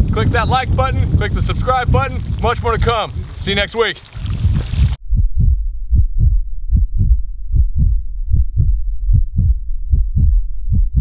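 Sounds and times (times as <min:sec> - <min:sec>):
heartbeat thumps: 0:00.0 - 0:03.4, 0:04.2 - 0:11.0
steady low rumble: 0:00.0 - 0:11.0.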